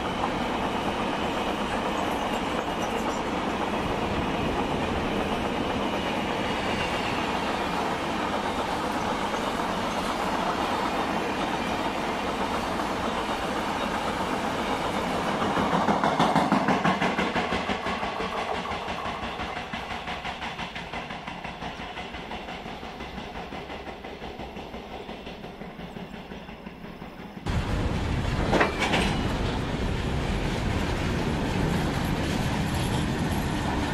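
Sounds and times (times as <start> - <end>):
freight train clattering past: 0.0 - 33.9
train wheels clattering over rail joints: 0.0 - 33.9.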